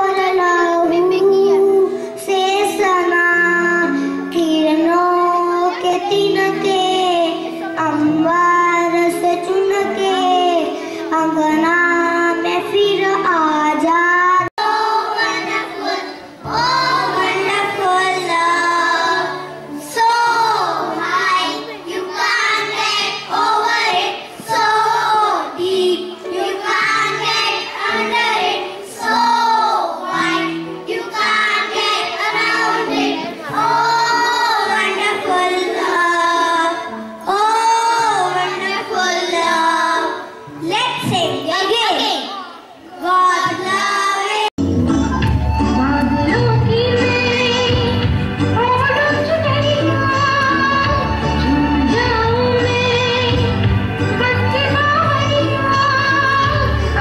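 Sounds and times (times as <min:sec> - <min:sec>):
children singing: 0:02.4 - 0:41.4, 0:42.2 - 0:57.0.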